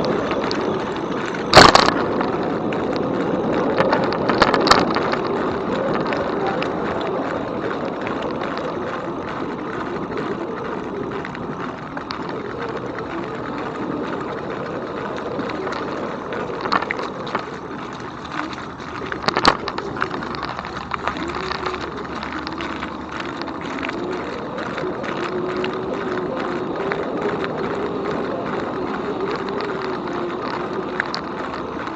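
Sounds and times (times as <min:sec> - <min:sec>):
bike tyres rolling: 0:00.0 - 0:31.9
wavering motor hum: 0:00.0 - 0:31.9
wind noise: 0:00.0 - 0:31.9.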